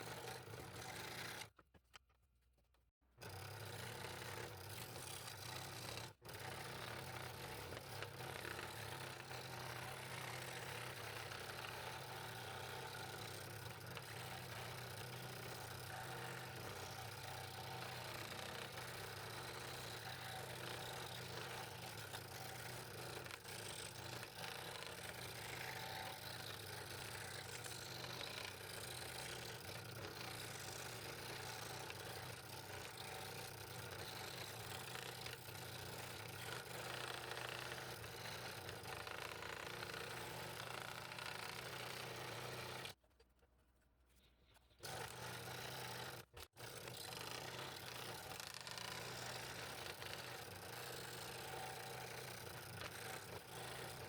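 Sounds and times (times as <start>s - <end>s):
scroll saw running: 0.0s - 1.6s, 3.2s - 43.0s, 44.8s - 54.0s.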